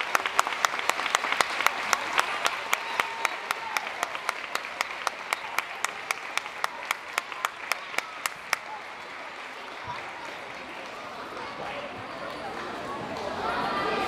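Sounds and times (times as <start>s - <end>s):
close hands clapping: 0.0s - 13.4s
audience applauding: 0.0s - 14.0s.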